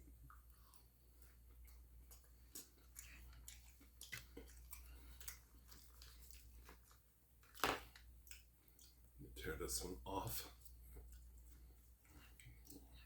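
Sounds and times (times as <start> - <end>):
person chewing: 0.0 - 9.2, 10.6 - 13.0
low steady hum: 0.0 - 13.0.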